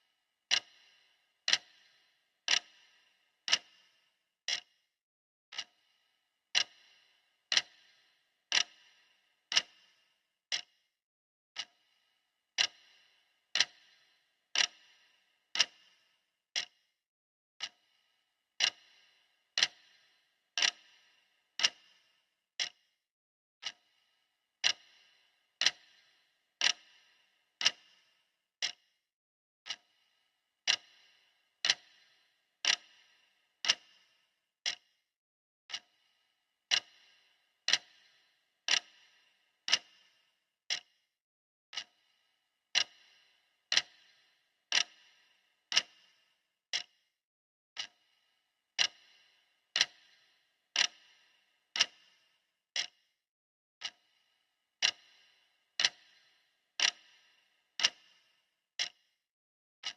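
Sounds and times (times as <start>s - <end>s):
clock ticking: 0.0s - 4.7s, 5.5s - 5.9s, 6.5s - 10.7s, 11.6s - 11.9s, 12.5s - 16.8s, 17.6s - 18.0s, 18.6s - 22.8s, 23.6s - 24.0s, 24.6s - 28.9s, 29.6s - 35.0s, 35.7s - 36.1s, 36.7s - 41.0s, 41.7s - 42.1s, 42.7s - 47.0s, 47.8s - 48.2s, 48.8s - 53.1s, 53.8s - 59.1s.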